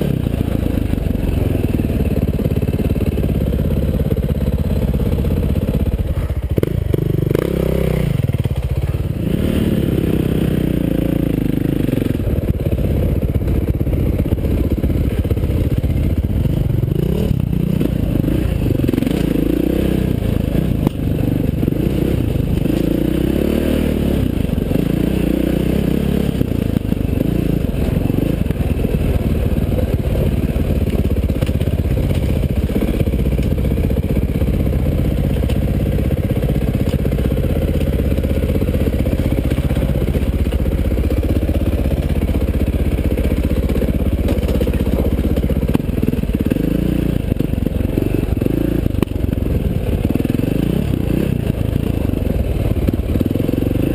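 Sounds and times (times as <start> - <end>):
dirt bike engine revving: 6.5 - 8.5, 9.1 - 12.8, 15.1 - 53.9.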